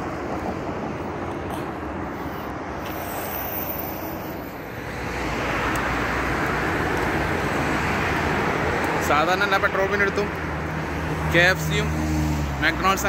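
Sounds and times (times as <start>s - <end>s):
road traffic passing cars: 0.0s - 13.0s.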